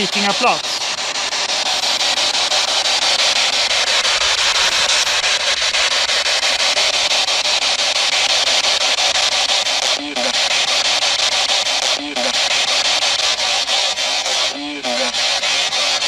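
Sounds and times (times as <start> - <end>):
radio static sweeping: 0.0 - 16.0.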